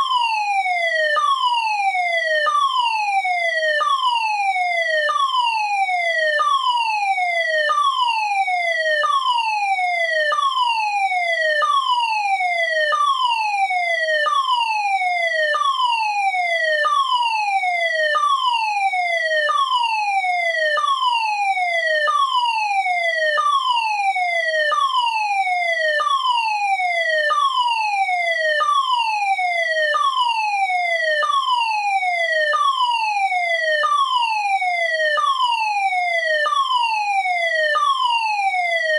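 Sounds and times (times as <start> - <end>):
fire alarm falling sweep tone: 0.0 - 38.9.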